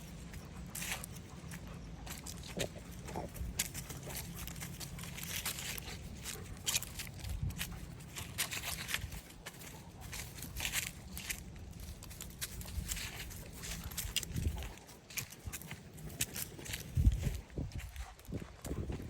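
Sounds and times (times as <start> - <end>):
footsteps crunching and scuffing: 0.0 - 19.0.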